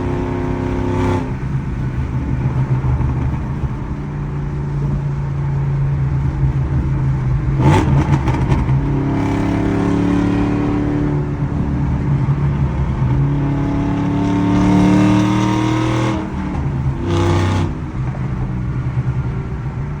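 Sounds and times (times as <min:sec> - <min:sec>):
car exhaust revving: 0:00.0 - 0:20.0.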